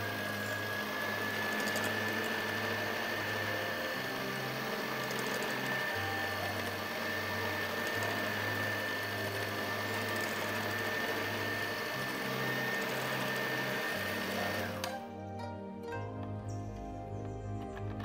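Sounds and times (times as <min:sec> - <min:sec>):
electric hand mixer whining: 0:00.0 - 0:15.4.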